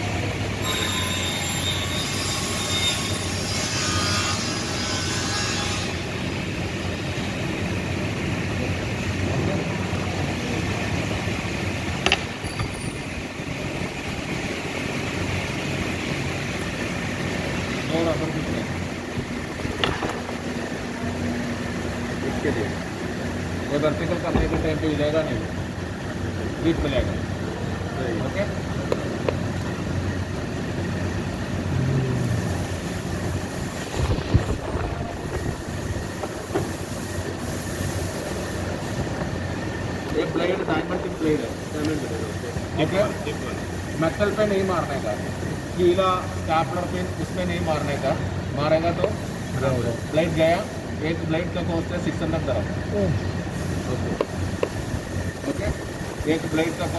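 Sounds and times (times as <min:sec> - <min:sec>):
low mechanical hum: 0:00.0 - 0:56.9.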